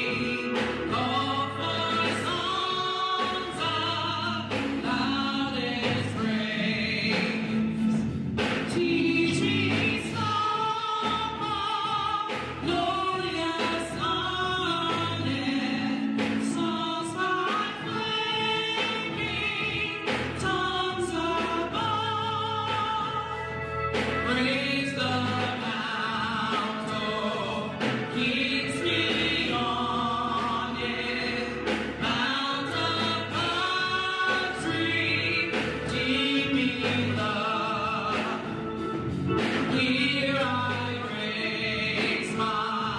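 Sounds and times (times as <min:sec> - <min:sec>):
choir singing: 0:00.0 - 0:42.9
low instrumental accompaniment: 0:00.0 - 0:42.9.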